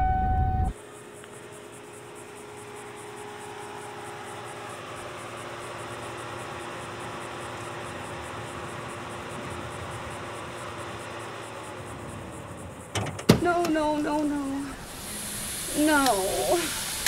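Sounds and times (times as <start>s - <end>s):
insects chirping: 0.7s - 17.0s
steady hiss: 0.8s - 17.0s
car approaching: 2.8s - 17.0s.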